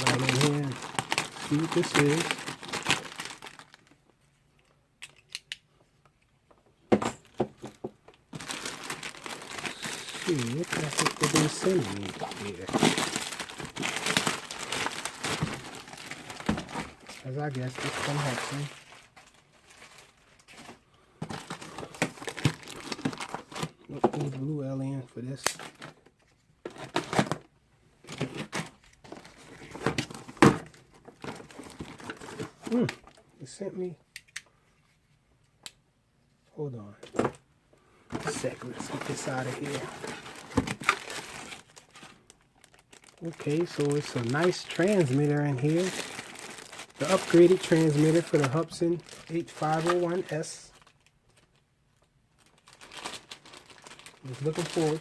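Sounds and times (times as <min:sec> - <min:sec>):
packaging rustling and crinkling: 0:00.0 - 0:04.0, 0:07.2 - 0:24.5, 0:25.5 - 0:33.2, 0:38.1 - 0:55.0.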